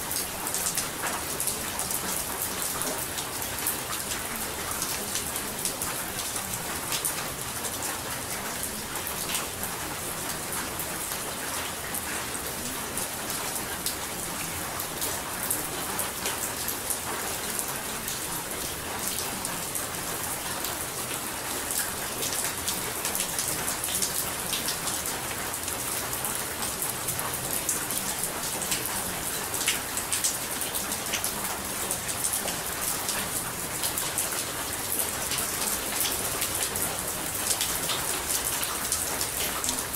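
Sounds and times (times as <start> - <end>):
rainfall with dripping ticks: 0.0 - 39.9.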